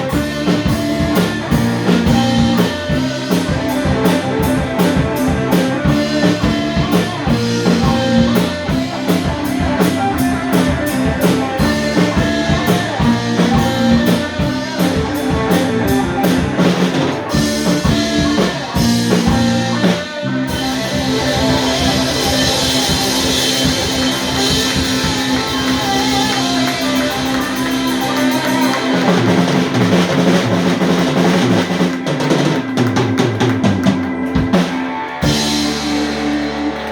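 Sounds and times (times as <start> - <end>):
drumbeat: 0.0 - 36.3
rock band playing: 0.0 - 36.9.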